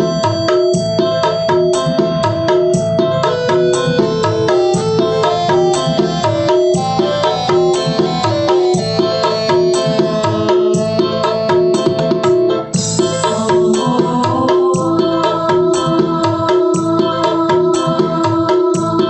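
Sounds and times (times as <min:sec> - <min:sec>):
song over loudspeaker: 0:00.0 - 0:19.0.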